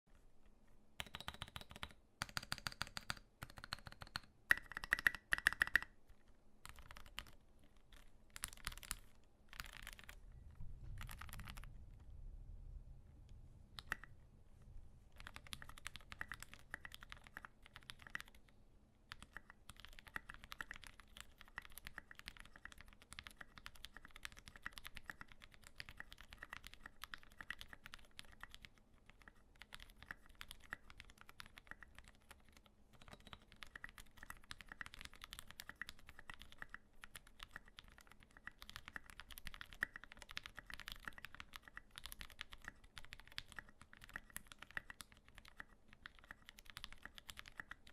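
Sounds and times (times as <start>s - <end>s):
mechanical keyboard typing: 1.0s - 5.9s, 6.6s - 10.2s, 11.0s - 11.7s, 15.2s - 18.5s, 19.1s - 47.9s.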